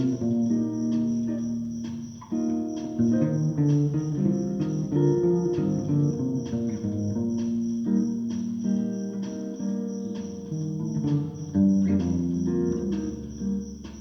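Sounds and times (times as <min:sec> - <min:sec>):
bass guitar playing: 0:00.0 - 0:14.0.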